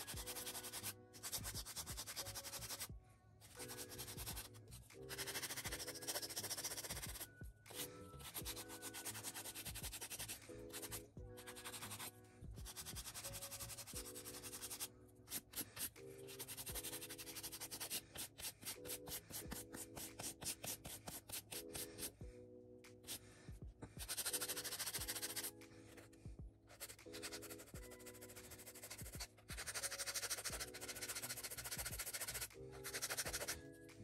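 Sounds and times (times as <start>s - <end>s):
nail file rubbing nails: 0.0s - 2.9s, 3.5s - 22.2s, 24.0s - 26.2s, 26.8s - 34.0s
background music: 0.0s - 34.0s.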